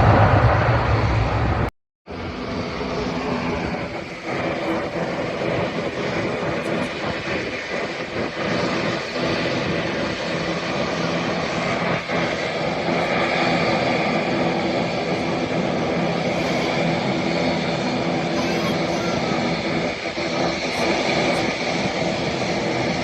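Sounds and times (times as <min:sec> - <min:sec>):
jet airliner engines running: 0:00.0 - 0:23.0.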